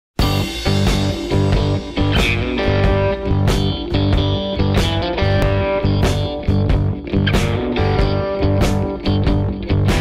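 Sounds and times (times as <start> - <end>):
rock music with guitar: 0.2 - 10.0.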